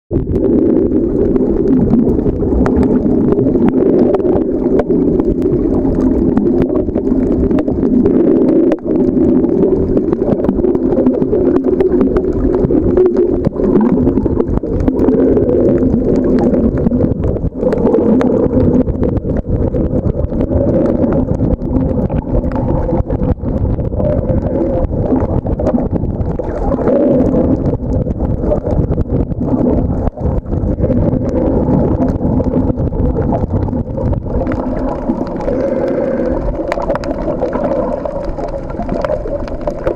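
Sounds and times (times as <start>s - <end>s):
underwater water rumble: 0.1s - 39.9s
faint clicks: 1.2s - 39.9s.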